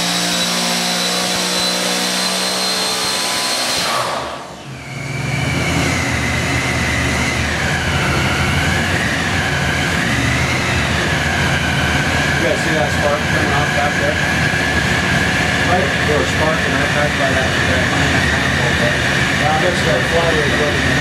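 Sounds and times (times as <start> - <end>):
boat engine at high rpm: 0.0 - 21.0
supercharger whine: 0.0 - 21.0.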